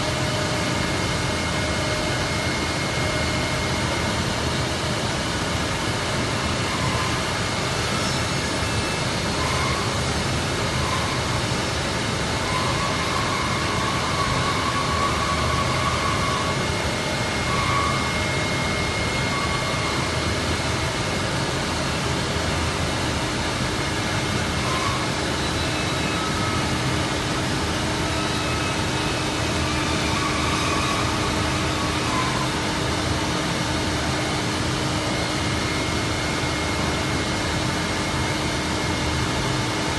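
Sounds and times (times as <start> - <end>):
cnc router rushing whine: 0.0 - 39.9.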